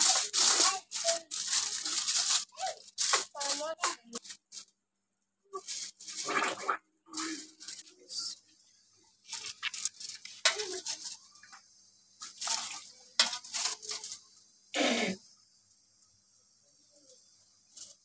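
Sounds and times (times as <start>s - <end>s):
aluminium foil crinkling: 0.0s - 4.8s, 5.5s - 14.5s, 17.1s - 18.0s.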